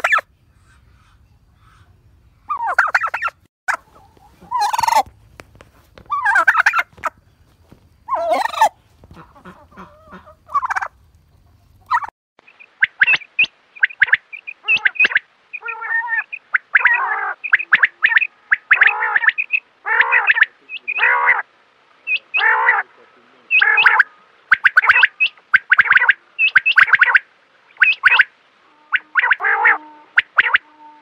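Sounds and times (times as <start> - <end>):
quail calling: 0.0 - 1.9, 2.5 - 5.1, 5.9 - 31.0.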